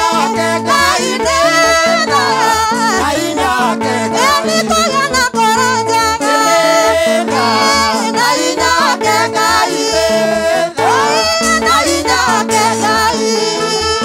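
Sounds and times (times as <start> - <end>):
bass line: 0.0 - 14.0
guitar: 0.0 - 14.0
woman singing: 0.0 - 14.0.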